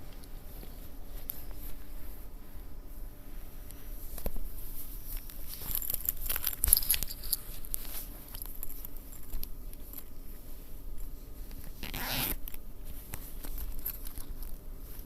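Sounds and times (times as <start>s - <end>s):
light rustling: 0.0s - 15.0s.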